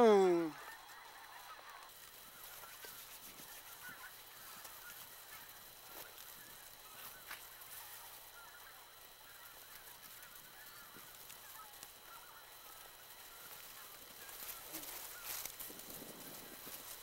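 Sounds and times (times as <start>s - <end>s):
distant geese honking: 0.0s - 17.0s
steady hiss: 0.0s - 17.0s.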